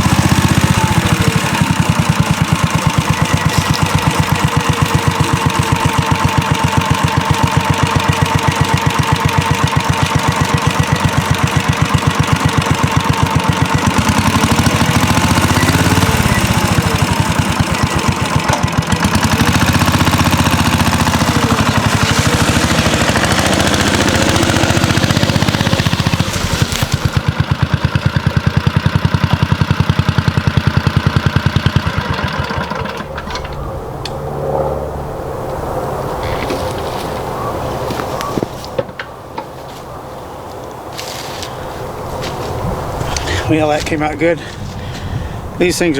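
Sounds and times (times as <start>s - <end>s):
scooter engine running: 0.0s - 35.2s, 36.0s - 45.6s.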